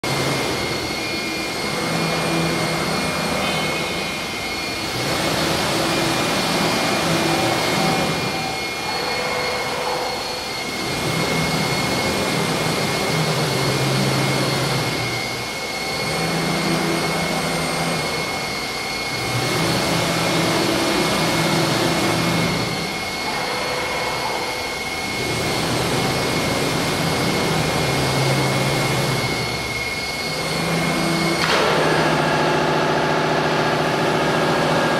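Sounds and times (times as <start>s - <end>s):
wood router spindle whine: 0.0s - 34.9s.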